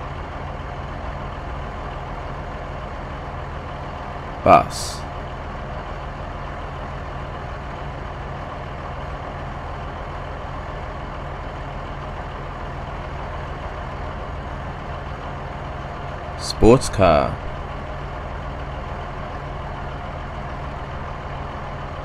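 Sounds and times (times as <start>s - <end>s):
bus engine humming: 0.0s - 22.0s.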